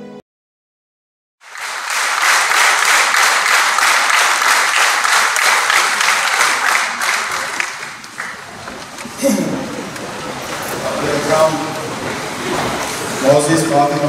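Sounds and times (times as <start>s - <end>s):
audience applauding: 1.4s - 13.2s.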